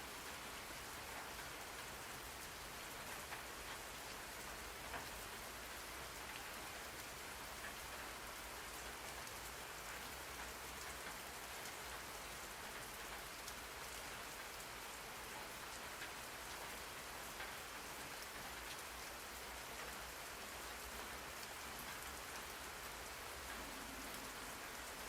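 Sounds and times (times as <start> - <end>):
rain falling: 0.0 - 25.0
raindrop ticks: 0.3 - 6.4, 7.0 - 25.0.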